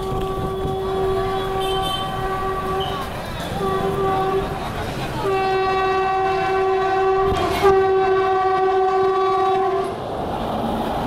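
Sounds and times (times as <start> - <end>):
train horn blast: 0.0 - 4.6, 5.2 - 10.0
train wheels rumbling on rails: 0.0 - 11.0.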